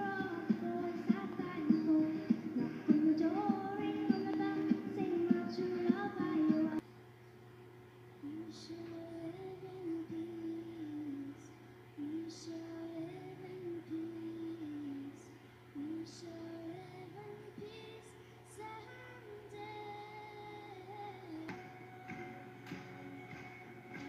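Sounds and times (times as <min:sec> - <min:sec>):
girl singing: 0:00.0 - 0:06.8, 0:08.2 - 0:22.1.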